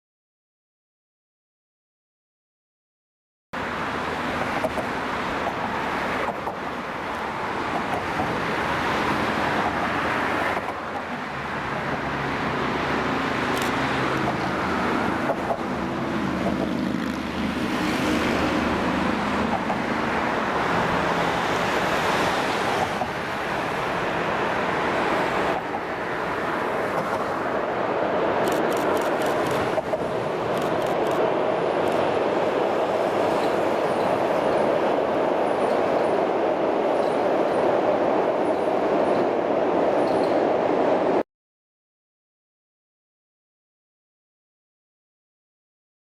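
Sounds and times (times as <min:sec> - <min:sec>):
road traffic noise: 0:03.6 - 0:41.2.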